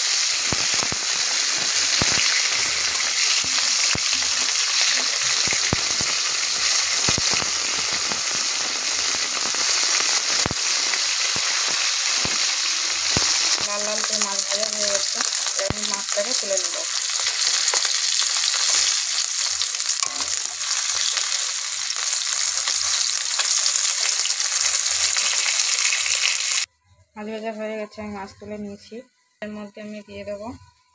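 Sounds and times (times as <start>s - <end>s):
fish sizzling in oil: 0.0s - 26.7s.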